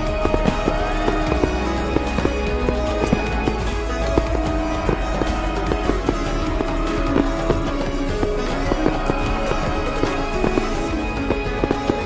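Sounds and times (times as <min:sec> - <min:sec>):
pop music with bass beat: 0:00.0 - 0:12.0.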